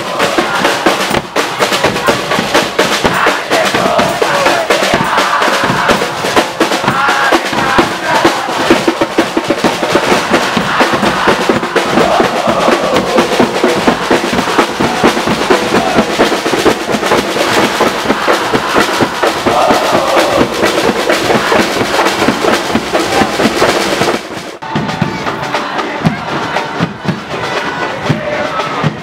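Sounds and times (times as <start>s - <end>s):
crowd chanting and singing: 0.0s - 29.0s
marching drums beating: 0.0s - 29.0s.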